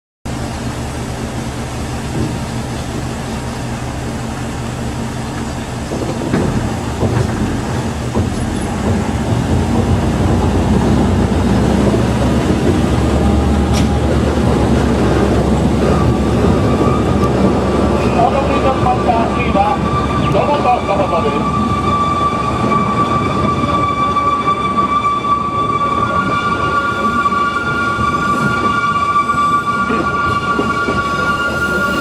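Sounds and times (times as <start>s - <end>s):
train running low drone: 0.3s - 32.0s.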